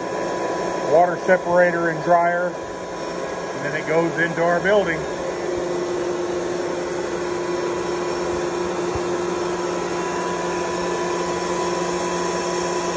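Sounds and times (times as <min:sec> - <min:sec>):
air compressor whining: 0:00.0 - 0:12.9.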